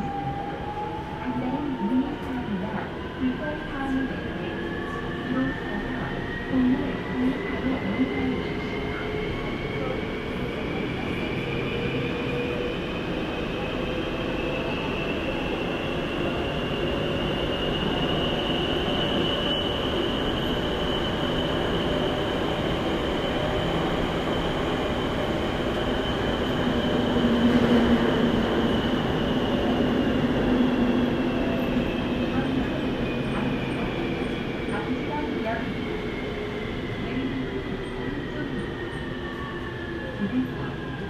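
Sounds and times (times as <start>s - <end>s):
train wheels rumbling on rail: 1.8s - 41.0s.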